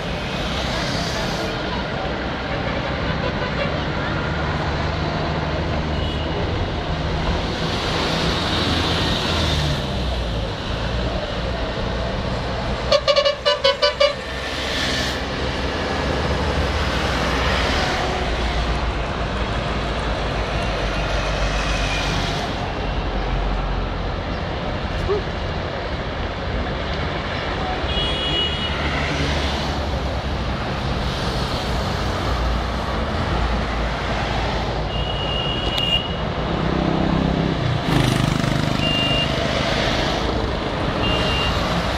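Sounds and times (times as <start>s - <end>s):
highway traffic: 0.0s - 41.9s.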